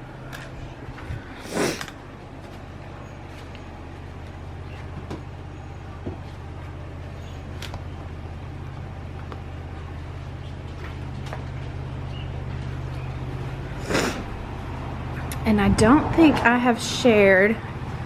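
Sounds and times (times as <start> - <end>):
vehicle humming: 0.0 - 18.0.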